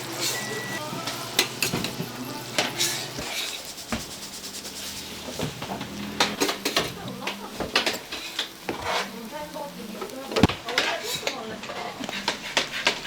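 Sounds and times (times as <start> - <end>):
metal utensils clinking and scraping: 0.0 - 0.7, 1.4 - 4.0, 4.7 - 13.0
food sizzling: 0.0 - 13.0.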